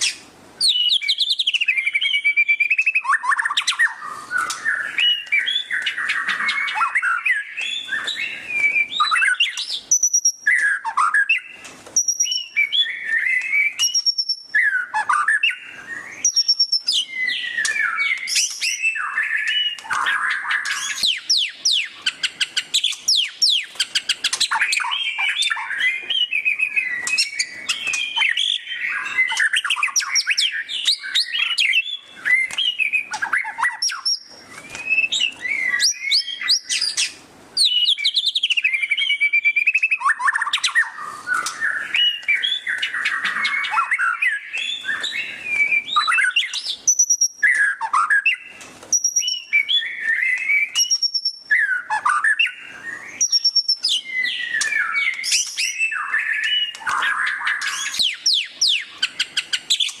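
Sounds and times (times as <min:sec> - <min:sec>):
songbird singing varied song: 0:00.0 - 1:00.0.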